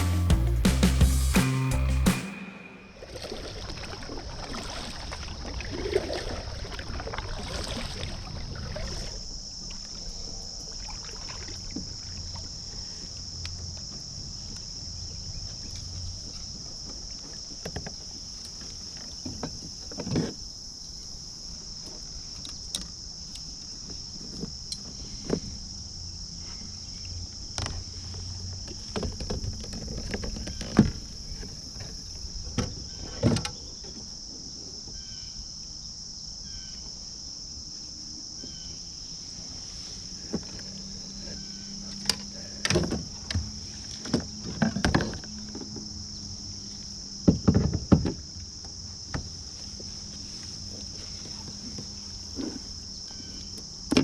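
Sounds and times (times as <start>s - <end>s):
insects droning: 1.4s - 54.0s.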